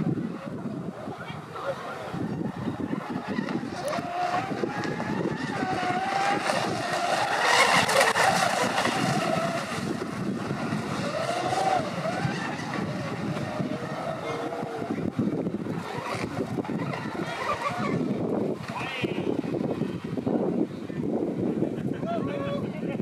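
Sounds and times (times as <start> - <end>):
model boat motor running: 0.0 - 21.8.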